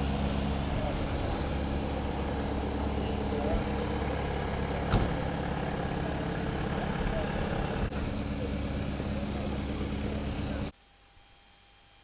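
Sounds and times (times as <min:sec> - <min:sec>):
engine idling: 0:00.0 - 0:10.7.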